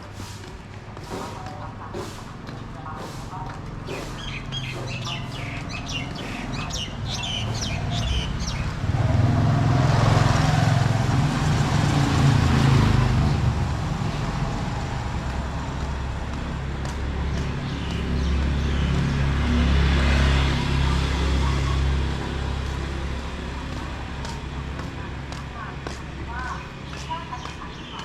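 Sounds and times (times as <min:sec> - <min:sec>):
birds chirping: 0:00.0 - 0:10.3, 0:14.1 - 0:28.0
low engine hum: 0:00.0 - 0:28.0
motor vehicle passing: 0:00.0 - 0:28.0.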